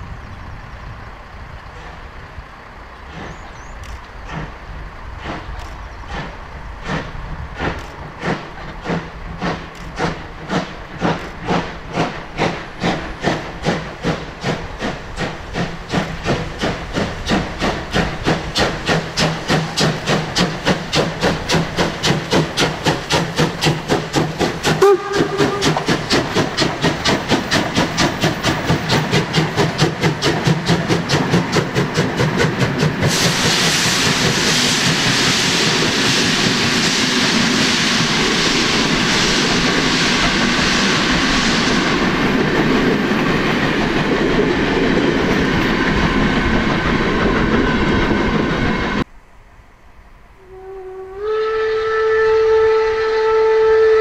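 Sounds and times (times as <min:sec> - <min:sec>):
hissing steam: 0:00.0 - 0:49.1
steam locomotive exhaust beats: 0:00.0 - 0:49.3, 0:50.0 - 0:54.0
train passing rushing hiss: 0:00.0 - 0:54.0.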